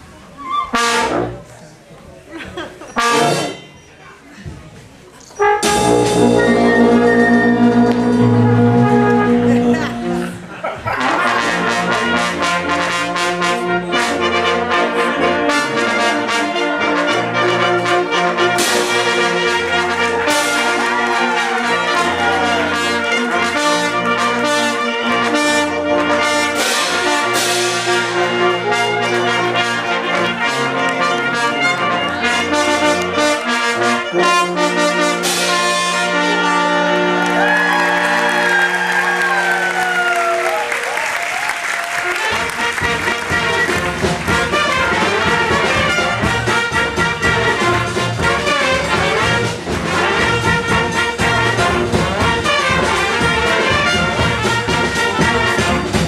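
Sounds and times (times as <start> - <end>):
brass band playing: 0.0 - 1.5, 2.8 - 3.9, 5.4 - 56.0.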